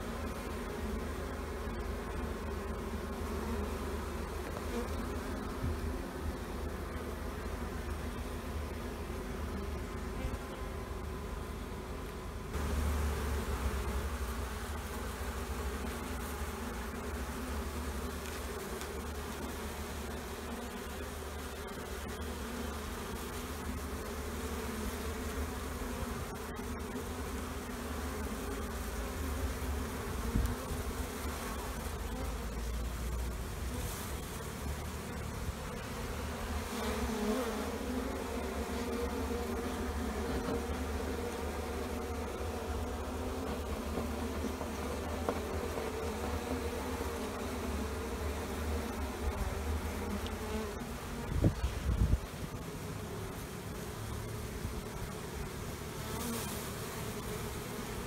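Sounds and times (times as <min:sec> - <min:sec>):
honey bees buzzing: 0:00.0 - 0:58.0.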